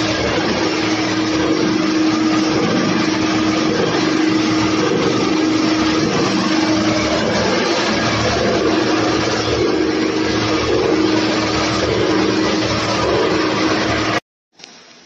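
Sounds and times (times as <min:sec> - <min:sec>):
constant rushing noise: 0:00.0 - 0:14.2
machinery humming: 0:00.0 - 0:14.2.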